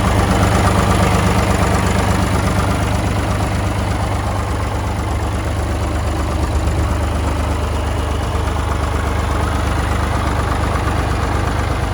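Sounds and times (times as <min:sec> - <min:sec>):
diesel tractor engine running: 0:00.0 - 0:11.9.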